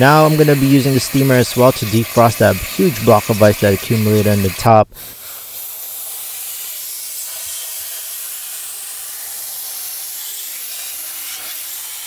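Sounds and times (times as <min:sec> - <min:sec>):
steam cleaner hissing: 0:00.0 - 0:12.0.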